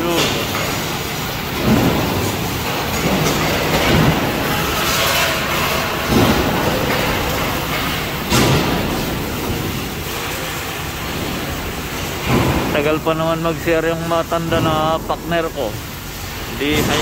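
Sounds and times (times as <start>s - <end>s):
workshop machinery din: 0.0s - 17.0s.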